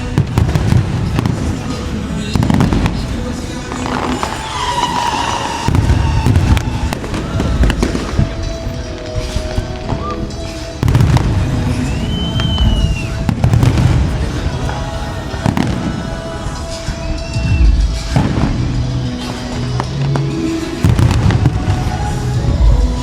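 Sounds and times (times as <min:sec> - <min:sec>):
fireworks booming and crackling: 0:00.0 - 0:23.0
music: 0:00.0 - 0:23.0.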